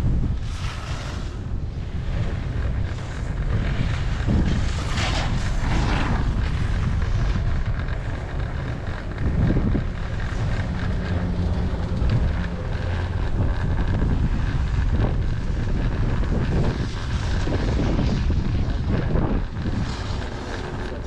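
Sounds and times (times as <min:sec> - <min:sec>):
steady low hum: 0:00.0 - 0:21.0
wind buffeting microphone: 0:00.0 - 0:21.0.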